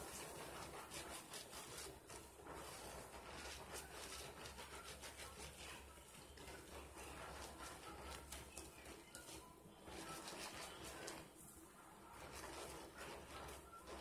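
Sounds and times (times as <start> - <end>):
squishing soapy lather: 0.0 - 14.0.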